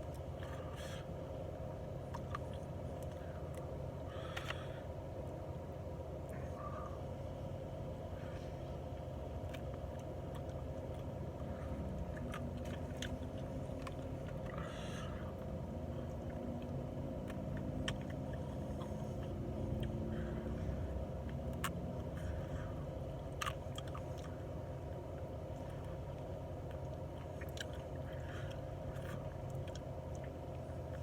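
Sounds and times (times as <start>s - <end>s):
chewing crispy chicken wings: 0.0s - 5.4s, 8.2s - 31.0s
steady low hum: 0.0s - 31.0s.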